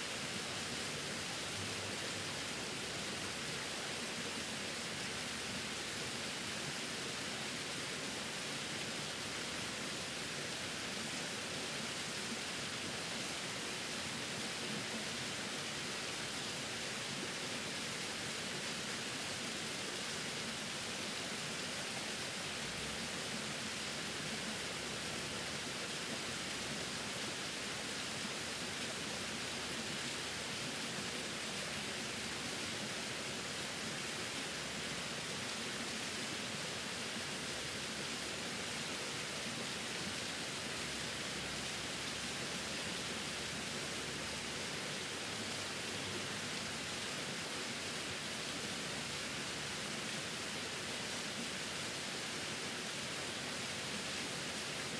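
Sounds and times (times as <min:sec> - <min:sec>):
small waterfall splashing: 0:00.0 - 0:54.9.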